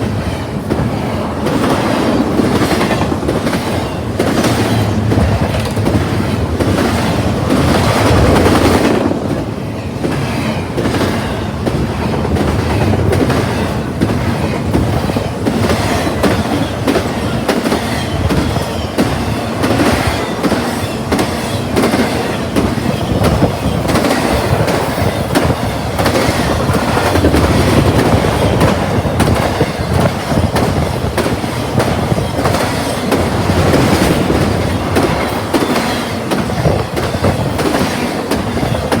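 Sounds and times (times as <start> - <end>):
freight train rumble: 0.0 - 39.0.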